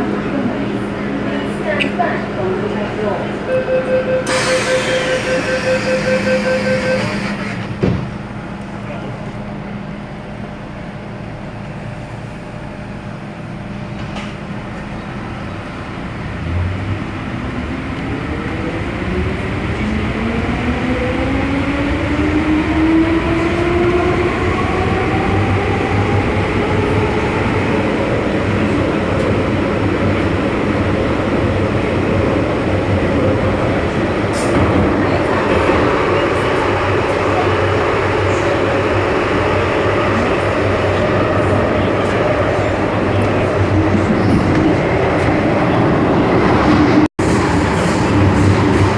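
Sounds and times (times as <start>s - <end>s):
metro car humming: 0.0s - 48.9s
rail running noise: 0.0s - 48.9s.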